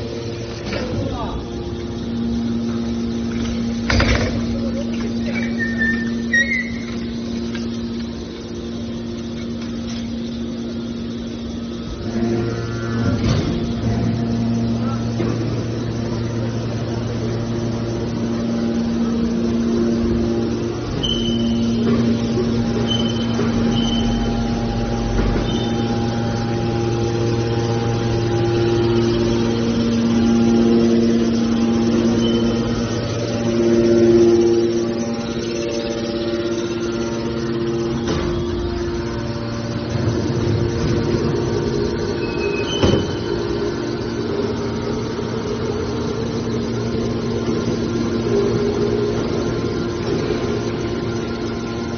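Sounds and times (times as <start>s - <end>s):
hydraulic machine hum: 0.0s - 51.9s.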